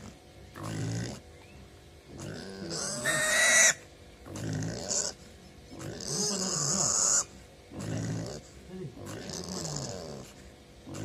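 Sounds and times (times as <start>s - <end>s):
pig squealing and grunting: 0.0s - 1.3s, 2.1s - 11.0s.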